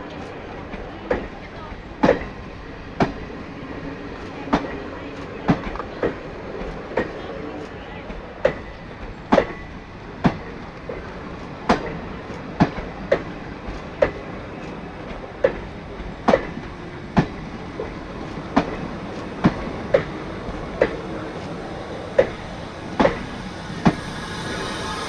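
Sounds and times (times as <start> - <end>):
rumble of rolling train: 0.0 - 25.0
train wheels clacking over rail joints: 0.1 - 3.4, 4.1 - 25.0.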